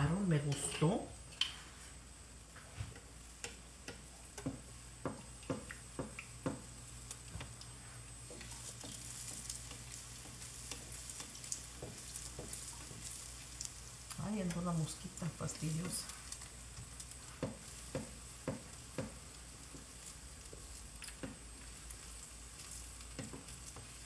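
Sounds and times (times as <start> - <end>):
food sizzling in hot oil: 0.0 - 24.0
wooden spatulas tapping pan: 2.9 - 7.5, 8.2 - 21.8, 22.6 - 24.0.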